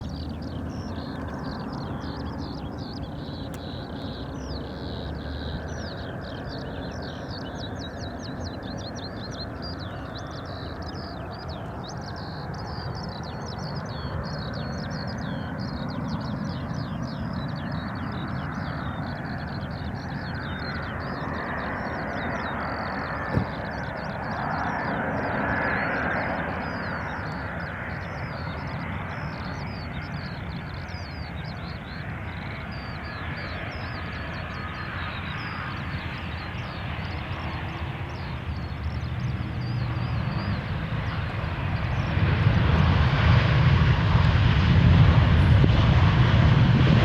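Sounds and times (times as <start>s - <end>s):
birds chirping: 0.0s - 47.0s
jet airliner rumble: 0.0s - 47.0s.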